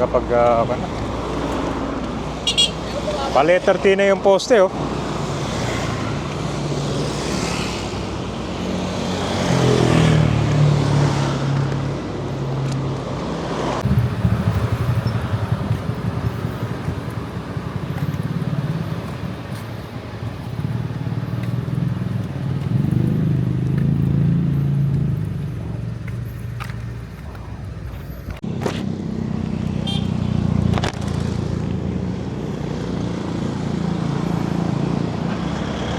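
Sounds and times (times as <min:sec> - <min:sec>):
vehicle engines running: 0:00.0 - 0:35.9
vehicle passing: 0:00.0 - 0:35.9.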